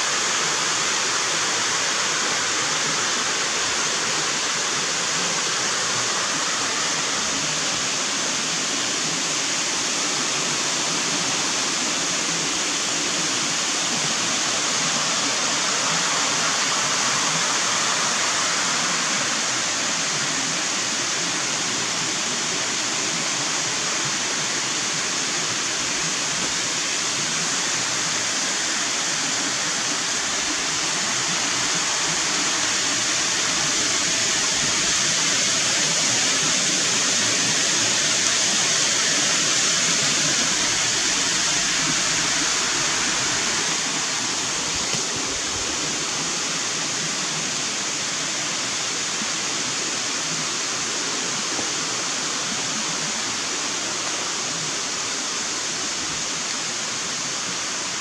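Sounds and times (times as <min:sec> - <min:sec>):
creek water rushing over rocks: 0:00.0 - 0:58.0.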